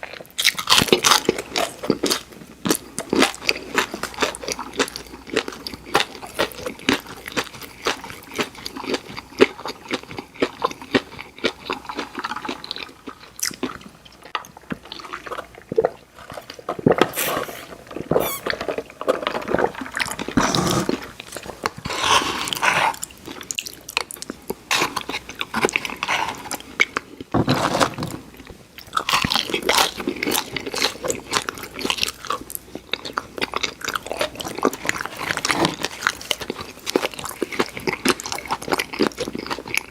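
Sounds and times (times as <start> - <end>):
person crunching and chewing food: 0.0 - 39.9.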